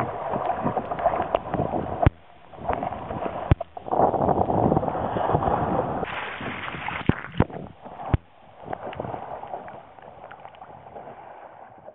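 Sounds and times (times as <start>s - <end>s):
water rushing along hull: 0.0s - 11.9s.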